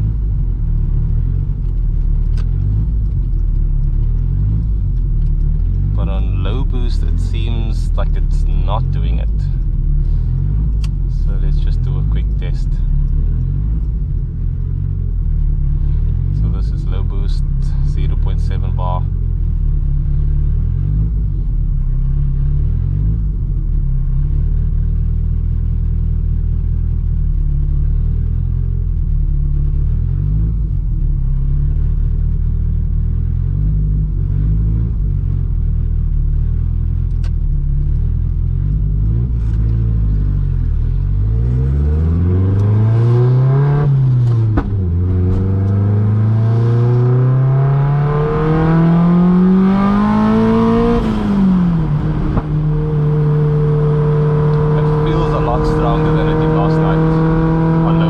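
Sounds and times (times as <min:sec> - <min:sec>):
turbocharged car engine accelerating: 0:00.0 - 0:58.0.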